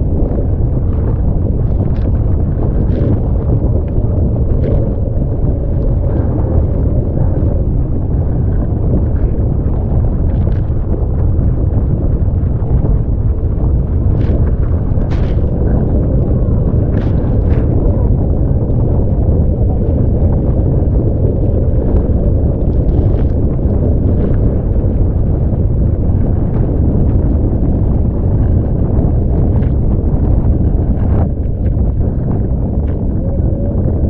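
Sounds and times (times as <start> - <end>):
strong wind on microphone: 0.0 - 34.0.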